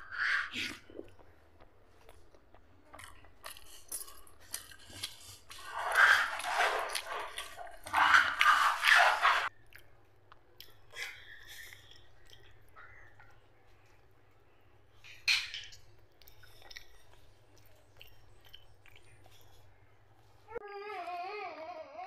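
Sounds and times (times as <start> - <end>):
person chewing food wetly: 0.0 - 15.0, 15.7 - 20.3.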